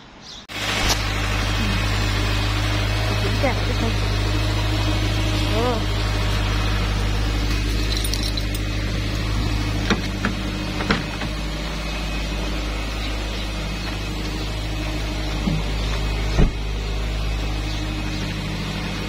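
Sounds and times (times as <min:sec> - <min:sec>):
car engine idling: 0:00.5 - 0:19.0.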